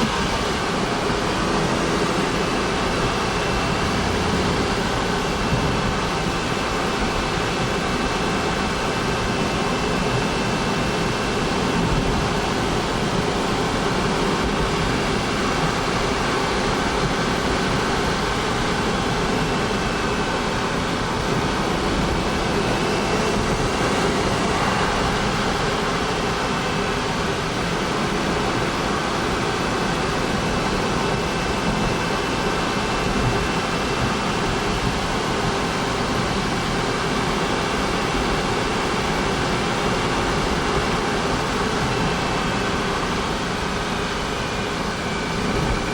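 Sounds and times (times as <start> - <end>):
car engine running steadily: 0.0 - 45.9.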